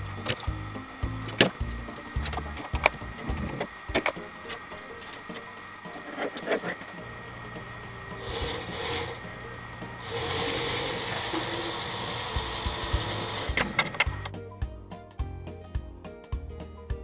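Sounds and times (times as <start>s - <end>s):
small electric motor whirring: 0.0s - 14.4s.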